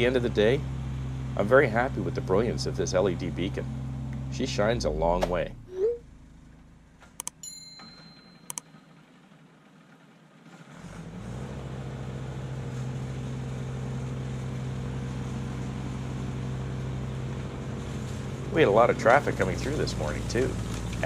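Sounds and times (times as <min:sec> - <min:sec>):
tractor diesel engine droning: 0:00.0 - 0:07.3, 0:07.9 - 0:21.0.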